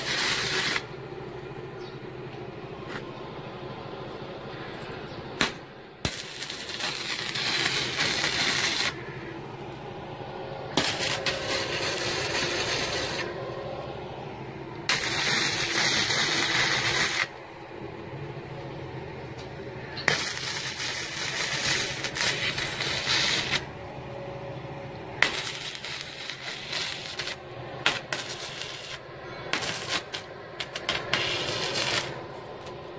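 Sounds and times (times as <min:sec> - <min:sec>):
welding arc buzzing: 0:00.0 - 0:01.4, 0:05.4 - 0:17.7, 0:19.7 - 0:32.9.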